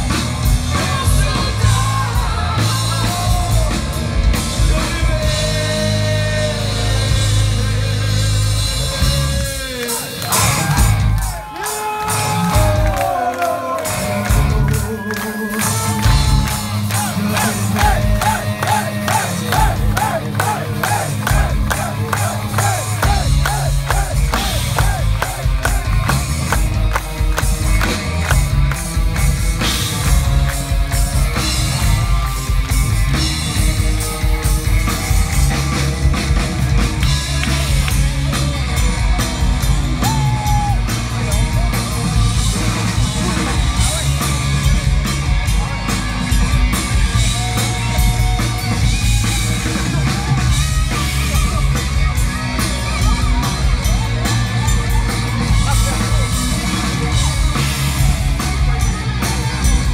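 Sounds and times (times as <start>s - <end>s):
heavy metal band playing live: 0.0s - 59.9s.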